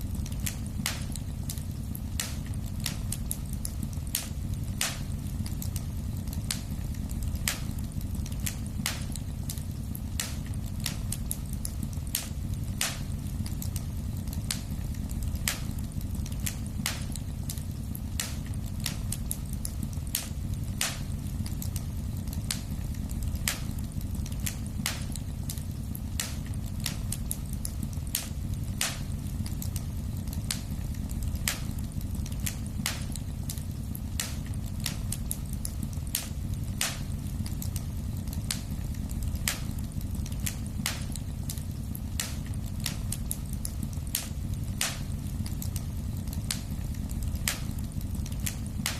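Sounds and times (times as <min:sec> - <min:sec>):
fire popping and ticking: 0:00.0 - 0:48.9
fire rumbling: 0:00.0 - 0:48.9.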